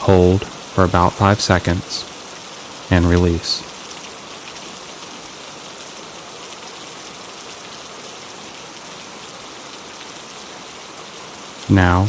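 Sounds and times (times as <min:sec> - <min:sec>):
gentle rain hiss: 0:00.0 - 0:12.0.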